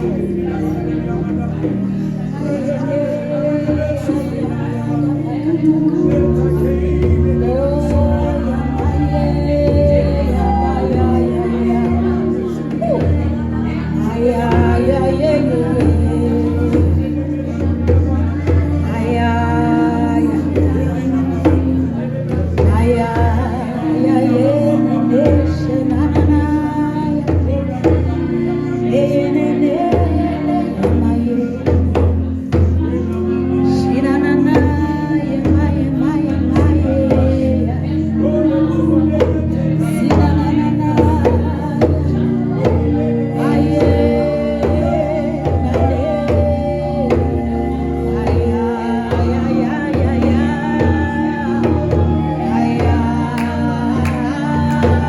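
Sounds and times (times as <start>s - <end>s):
gospel band playing: 0.0s - 55.0s
men and women singing: 0.0s - 55.0s.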